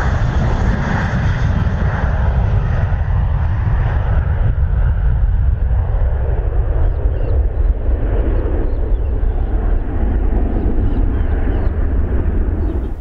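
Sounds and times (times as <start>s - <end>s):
jet airliner deep rumble: 0.0s - 13.0s.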